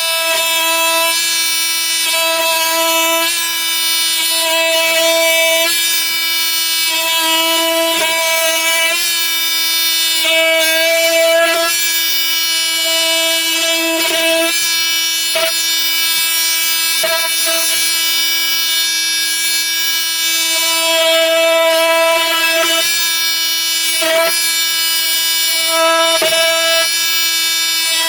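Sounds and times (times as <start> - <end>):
oscillating multi-tool cutting meat: 0.0 - 28.0.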